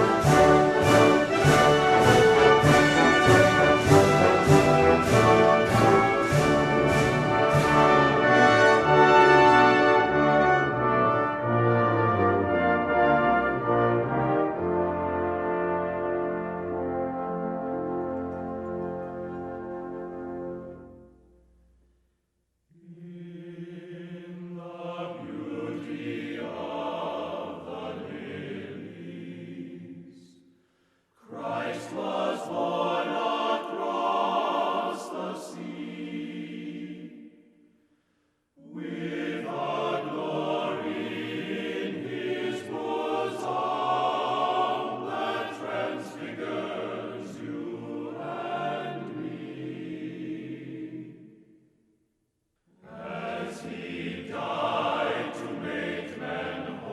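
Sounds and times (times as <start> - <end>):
choir singing sustained chords: 0.0 - 21.8, 22.7 - 30.6, 31.2 - 38.0, 38.6 - 51.9, 52.7 - 56.9.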